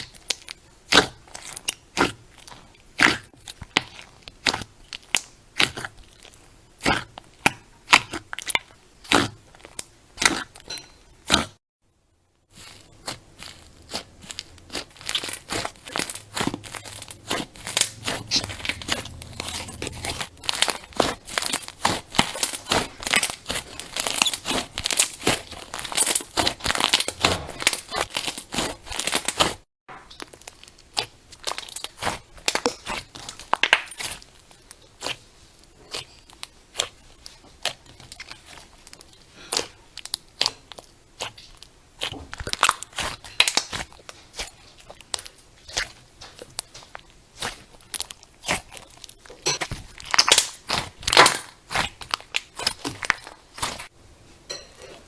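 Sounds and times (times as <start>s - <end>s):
crunchy slime crackling: 0.0s - 11.6s, 12.5s - 53.9s.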